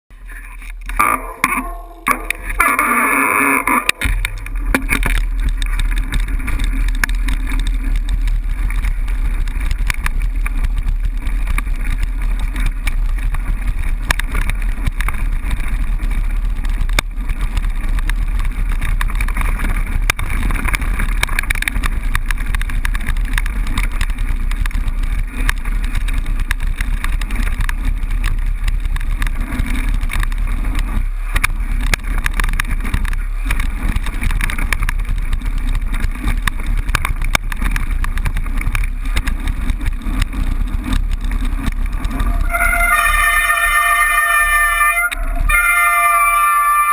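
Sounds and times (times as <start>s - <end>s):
bike rattling over stones: 0.1s - 46.9s
wind rumble on microphone: 0.1s - 46.9s.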